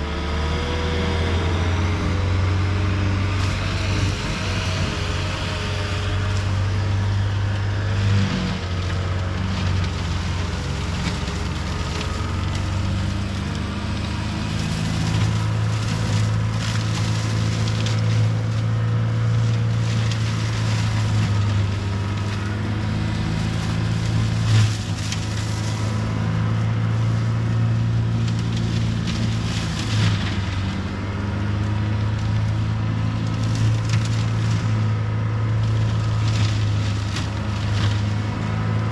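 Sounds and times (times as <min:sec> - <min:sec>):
diesel engine at high revs: 0:00.0 - 0:38.9.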